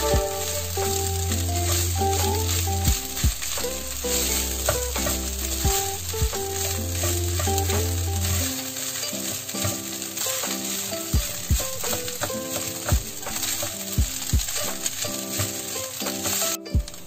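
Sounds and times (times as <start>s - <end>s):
music with kick-drum beats: 0.0s - 8.5s, 11.2s - 17.0s
spatula scraping a wok: 0.0s - 16.6s
fried rice sizzling in a wok: 0.0s - 17.0s.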